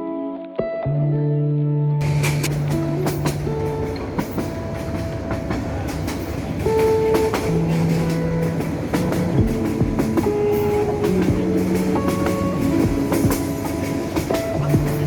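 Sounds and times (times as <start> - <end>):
background music with held notes: 2.0 - 15.0
rail clicks: 2.0 - 15.0
train rumbling on rails: 2.0 - 15.0.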